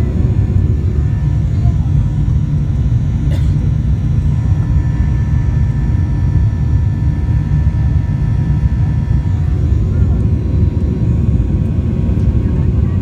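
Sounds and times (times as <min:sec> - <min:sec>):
faint engine whine: 0:00.0 - 0:13.0
jet engine rumble in cabin: 0:00.0 - 0:13.0.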